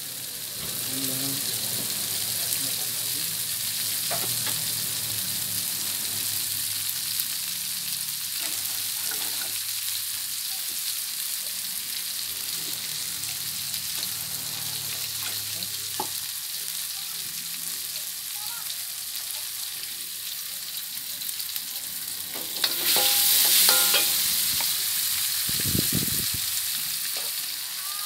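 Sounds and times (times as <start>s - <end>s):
paste frying in oil: 0.0s - 28.0s.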